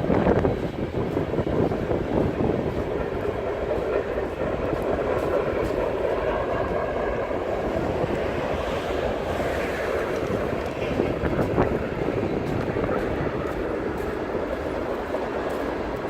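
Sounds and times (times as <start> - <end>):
freight train wheels rumbling on rails: 0.0 - 16.0.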